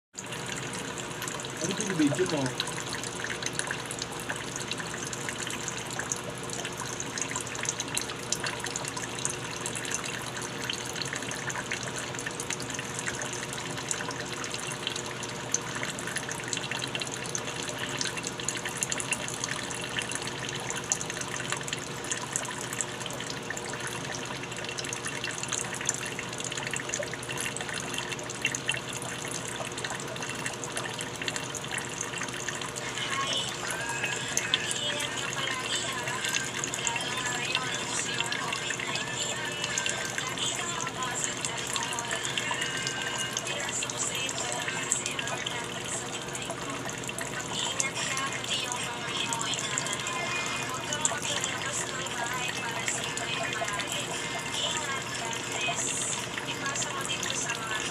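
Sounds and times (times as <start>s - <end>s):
water pouring and splashing: 0.2s - 57.9s.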